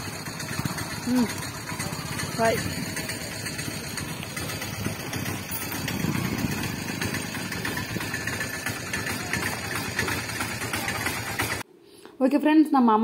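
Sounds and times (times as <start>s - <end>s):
small engine idling: 0.0s - 11.6s.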